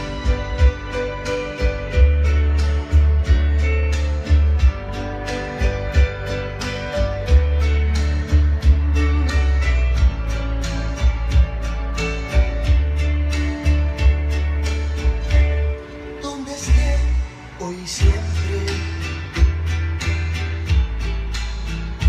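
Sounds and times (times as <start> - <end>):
steady bass: 0.0 - 22.0
strummed guitar music: 0.0 - 22.0.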